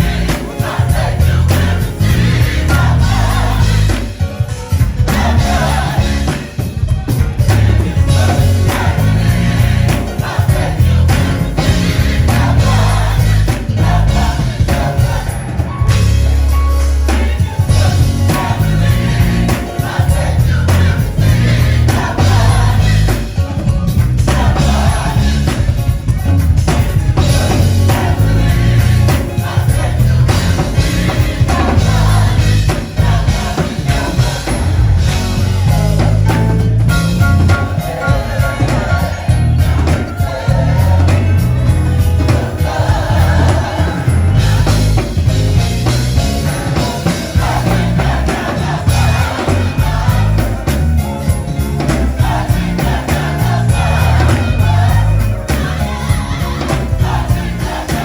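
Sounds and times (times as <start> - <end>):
band playing: 0.0 - 58.0
choir singing gospel: 0.0 - 58.0
heavy bass line: 0.0 - 58.0.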